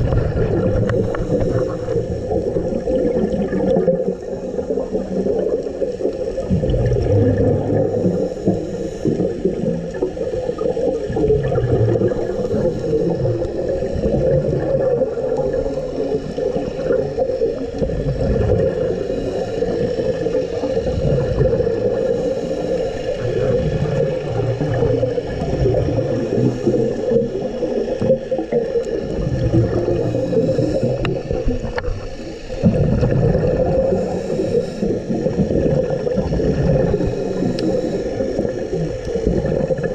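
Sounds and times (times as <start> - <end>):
exhaled bubbles gurgling: 0.0 - 39.9
underwater hum: 0.0 - 39.9.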